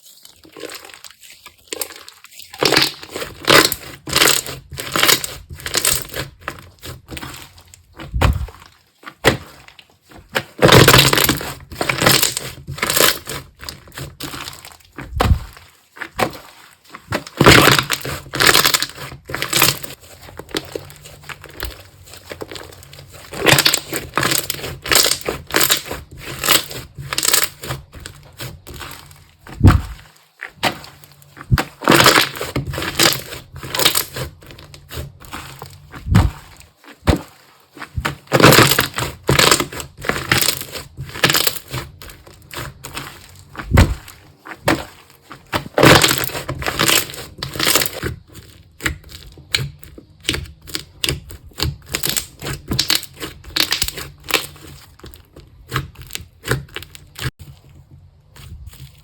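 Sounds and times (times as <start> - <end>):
slime squished by hand: 0.0 - 59.0.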